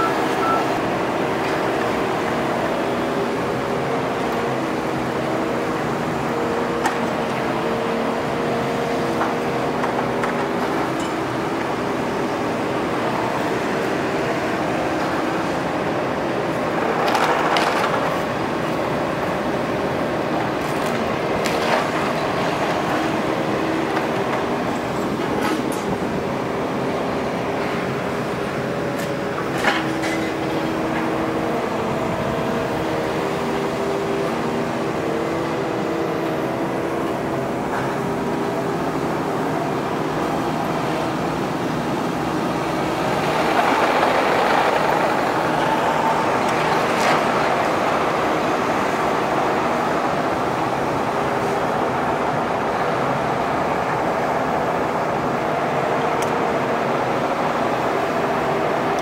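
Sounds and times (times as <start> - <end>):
excavator engine and hydraulics: 0.0 - 59.0.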